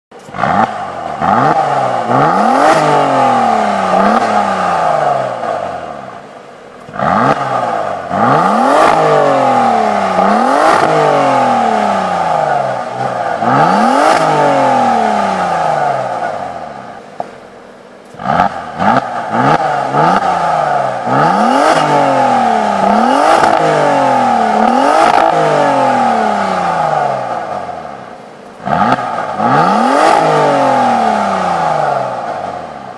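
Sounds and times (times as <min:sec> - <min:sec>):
car engine revving in blips: 0:00.1 - 0:32.9.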